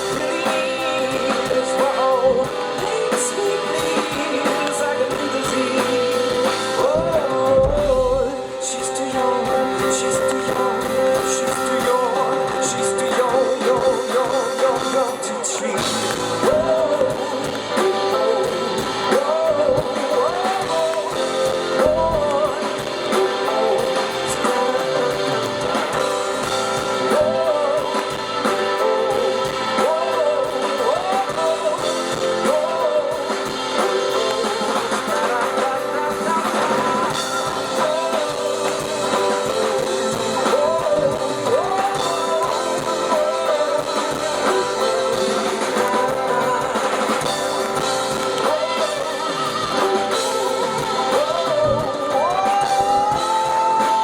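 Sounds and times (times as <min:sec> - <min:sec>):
guitar and band accompaniment: 0:00.0 - 0:54.0
man singing: 0:00.0 - 0:54.0.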